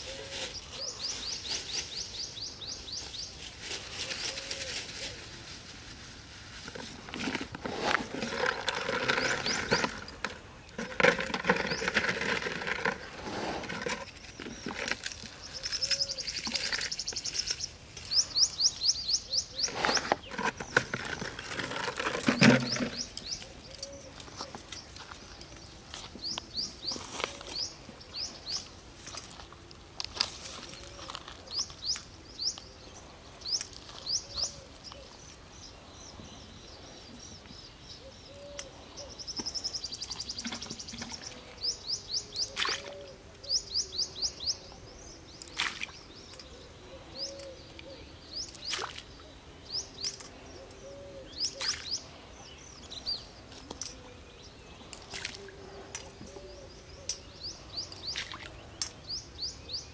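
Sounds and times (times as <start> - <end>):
birds chirping: 7.2 - 29.6, 30.4 - 59.9.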